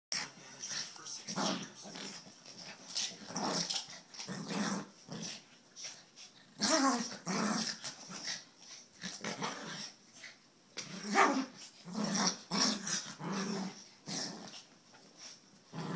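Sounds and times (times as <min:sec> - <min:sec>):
dogs play-growling: 0:00.1 - 0:15.9.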